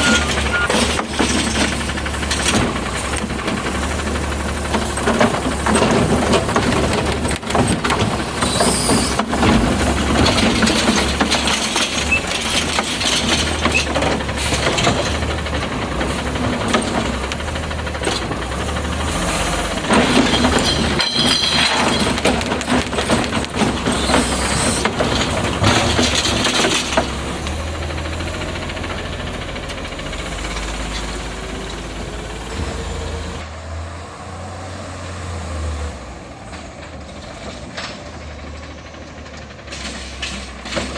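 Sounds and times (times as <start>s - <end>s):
garbage truck engine running: 0.0s - 40.9s.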